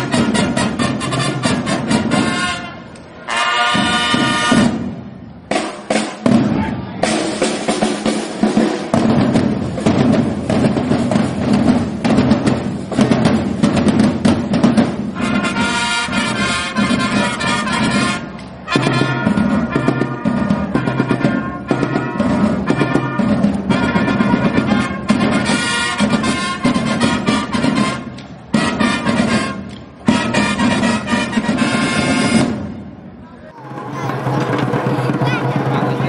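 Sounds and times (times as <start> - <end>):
drumbeat with rolls: 0.0 - 2.6, 3.7 - 36.0
brass instruments: 0.0 - 36.0.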